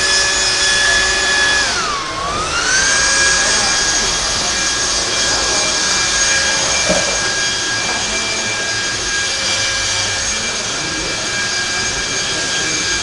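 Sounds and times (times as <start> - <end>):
constant rush of noise: 0.0 - 13.0
electric motors and gears whining: 0.0 - 13.0.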